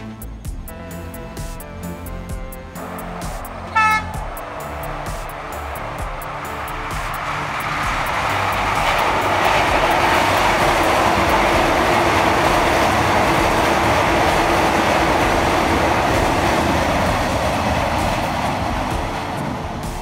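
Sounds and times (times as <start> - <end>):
electric train passing: 0.0 - 20.0
wheel and rail noise: 0.0 - 20.0.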